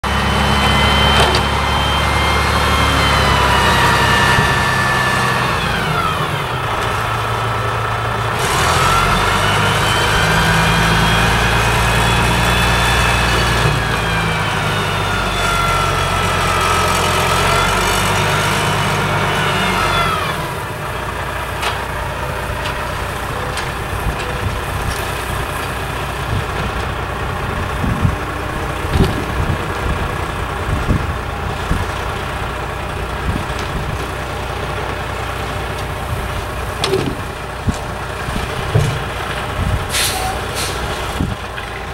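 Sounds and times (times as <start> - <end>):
truck engine idling: 0.0 - 41.9
truck engine revving with whine: 0.0 - 41.9.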